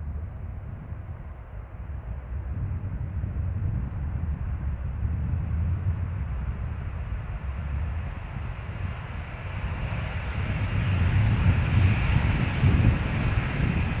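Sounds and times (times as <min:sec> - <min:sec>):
jet airliner engines: 0:00.0 - 0:14.0
wind rumble on microphone: 0:00.0 - 0:14.0.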